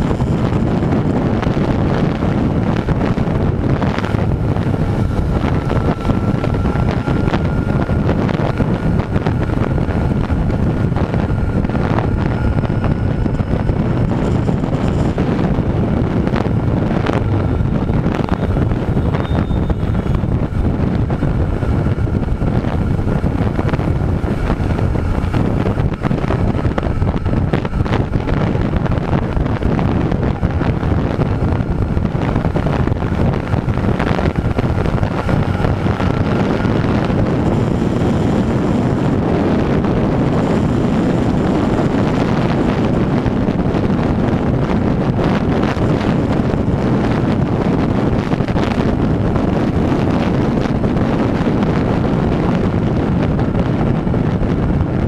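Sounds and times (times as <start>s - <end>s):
motorcycle and road rumble: 0.0s - 55.0s
wind buffeting microphone: 0.0s - 55.0s.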